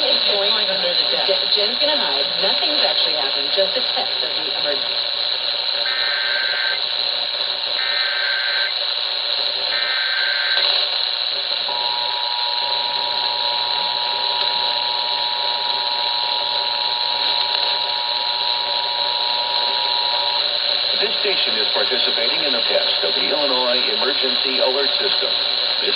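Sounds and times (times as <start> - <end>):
digital data bursts: 0.0 - 25.9
radio hiss: 0.0 - 25.9.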